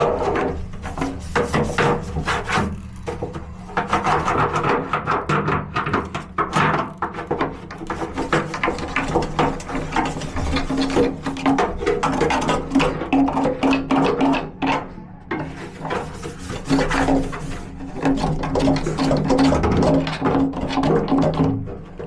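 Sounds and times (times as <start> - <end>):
scraper scraping grime off metal: 0.0 - 21.6.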